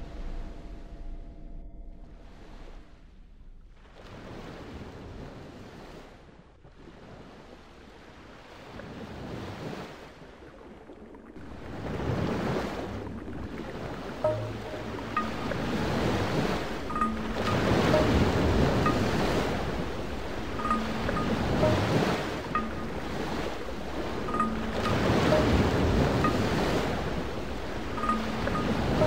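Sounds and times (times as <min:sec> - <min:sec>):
ocean waves washing in: 0:02.0 - 0:29.0.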